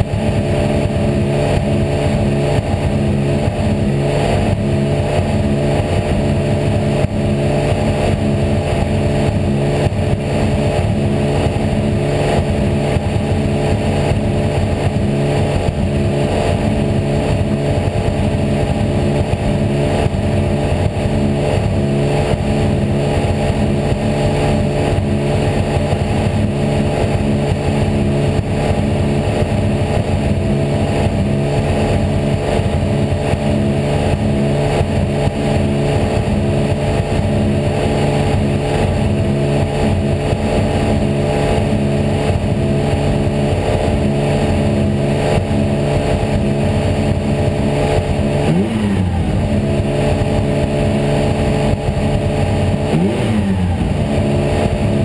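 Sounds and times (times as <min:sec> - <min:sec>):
race car engine running steadily: 0:00.0 - 0:55.0.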